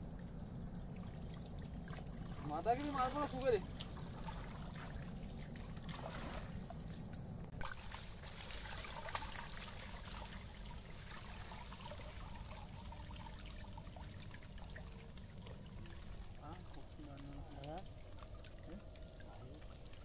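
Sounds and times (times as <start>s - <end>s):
stream water trickling: 0.0s - 20.0s.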